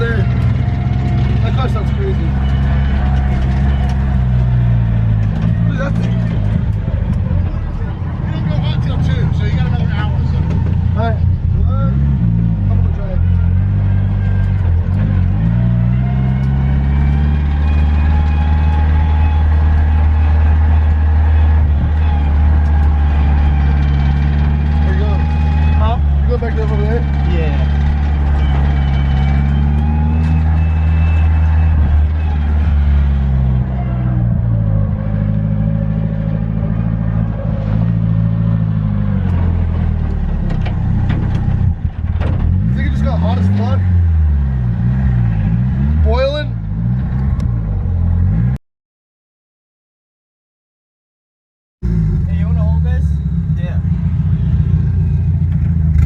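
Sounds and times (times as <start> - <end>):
car engine running: 0.0 - 48.3, 51.8 - 56.0.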